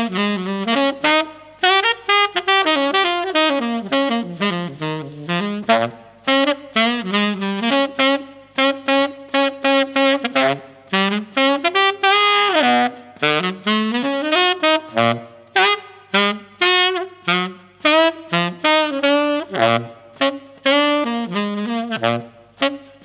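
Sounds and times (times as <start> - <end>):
tenor saxophone jazz line: 0.0 - 23.0.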